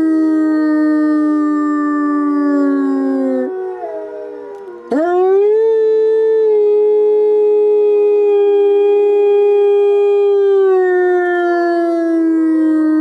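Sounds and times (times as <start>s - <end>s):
wolf howling: 0.0s - 13.0s.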